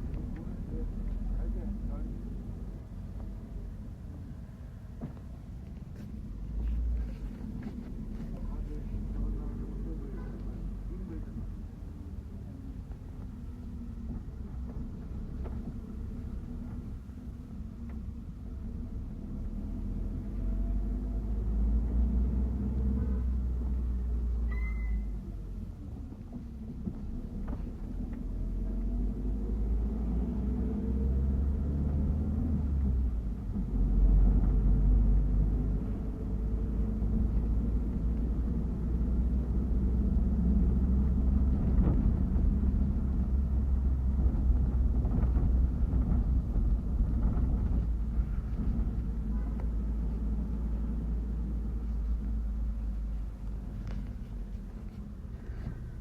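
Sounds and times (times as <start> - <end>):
bus engine rumble: 0.0 - 56.0
road noise inside bus: 0.0 - 56.0.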